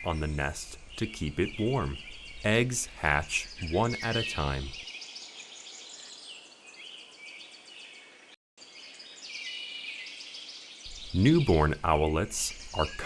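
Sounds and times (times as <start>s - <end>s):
insects: 0.0s - 13.0s
small birds chirping: 0.0s - 13.0s.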